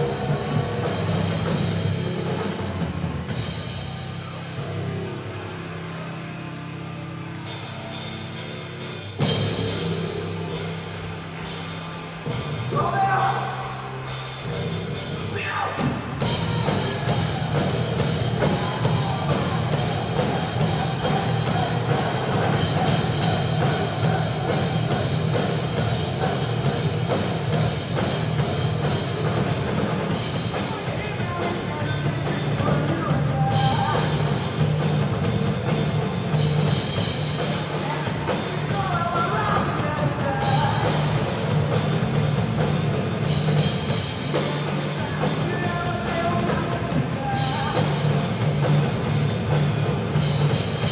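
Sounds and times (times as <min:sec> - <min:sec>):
drum kit with cymbal hits: 0:00.0 - 0:05.5, 0:07.4 - 0:50.9
electric guitars: 0:00.0 - 0:50.9.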